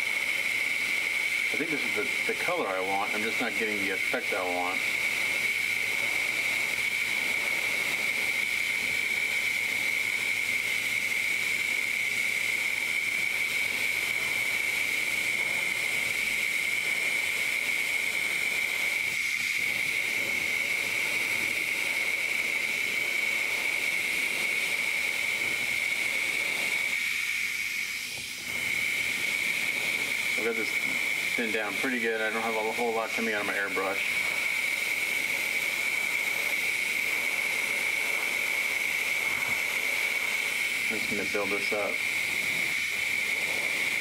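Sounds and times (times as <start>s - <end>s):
airbrush hissing: 0.0s - 44.0s.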